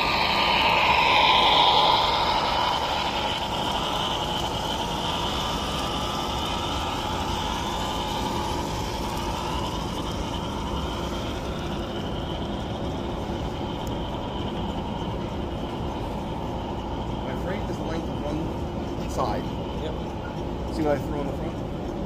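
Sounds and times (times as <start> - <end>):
faint motor whine: 0.0 - 22.0
model train running: 0.0 - 22.0.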